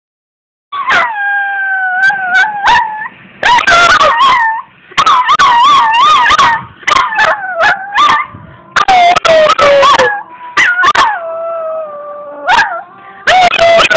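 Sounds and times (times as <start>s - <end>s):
puppy howling: 0.7s - 13.9s.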